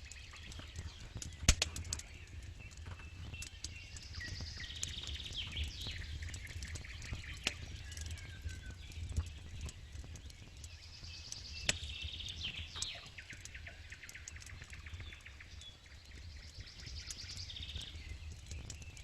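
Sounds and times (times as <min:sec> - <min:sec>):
campfire crackling and popping: 0:00.0 - 0:19.0
songbirds trilling: 0:00.0 - 0:19.0.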